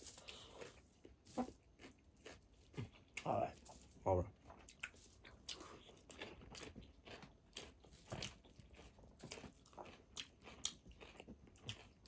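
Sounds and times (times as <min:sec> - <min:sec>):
wet chewing and crunching: 0:00.0 - 0:12.0.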